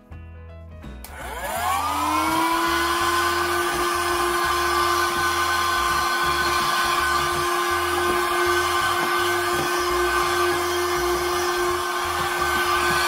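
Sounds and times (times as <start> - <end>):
handheld vacuum motor whine: 1.1 - 13.0.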